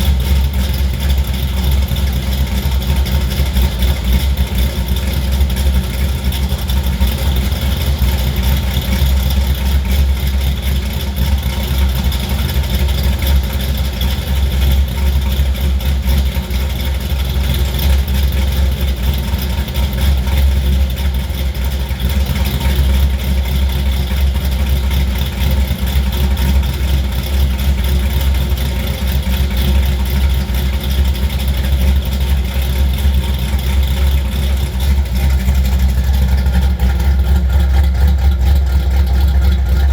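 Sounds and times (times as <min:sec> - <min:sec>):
car engine idling unevenly: 0:00.0 - 0:39.9.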